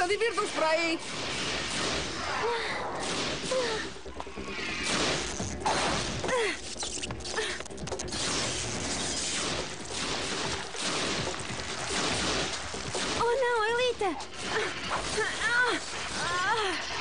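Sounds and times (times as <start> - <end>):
electronic laser zaps: 0.0 - 7.4, 8.0 - 17.0
background music: 0.0 - 17.0
crackling: 0.0 - 17.0.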